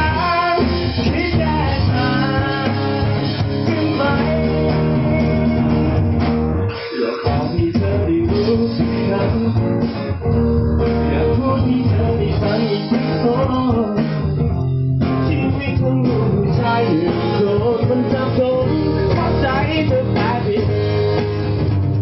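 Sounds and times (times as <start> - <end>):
man singing into a microphone: 0.0 - 6.0, 7.0 - 10.2, 11.0 - 14.4, 15.1 - 21.0
acoustic guitar: 0.0 - 22.0.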